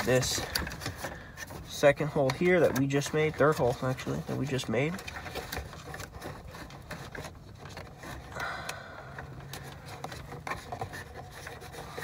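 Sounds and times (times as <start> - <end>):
cable rubbing and scraping on plastic: 0.0 - 8.4, 9.0 - 12.0.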